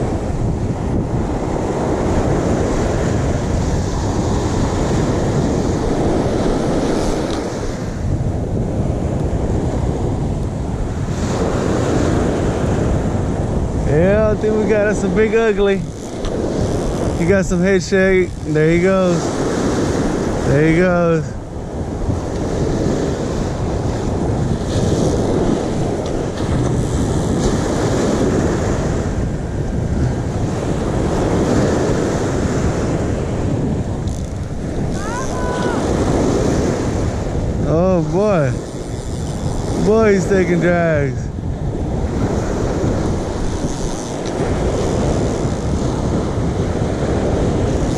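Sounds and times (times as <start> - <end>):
surf washing on sandy beach: 0.0 - 47.9
wind buffeting microphone: 0.0 - 47.9.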